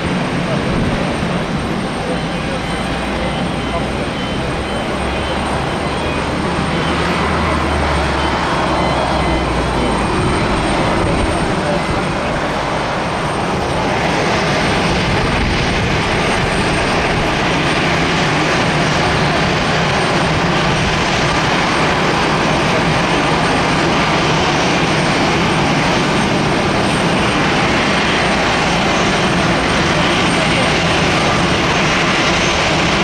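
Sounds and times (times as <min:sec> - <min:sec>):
jet engine noise: 0:00.0 - 0:33.0.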